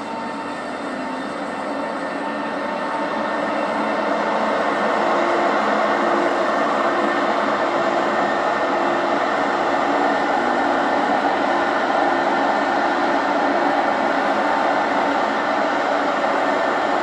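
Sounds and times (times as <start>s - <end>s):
electric locomotive hum: 0.0s - 17.0s
train rolling rumble: 0.0s - 17.0s.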